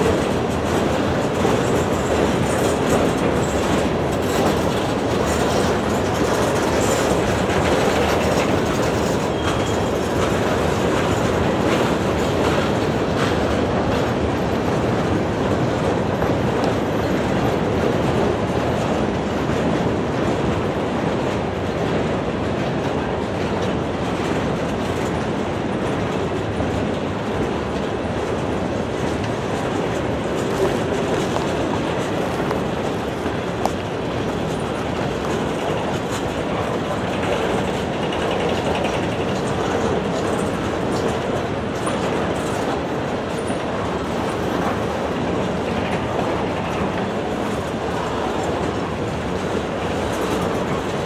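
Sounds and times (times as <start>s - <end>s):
freight train rolling past: 0.0s - 51.0s
wheels clicking over rail joints: 0.0s - 51.0s.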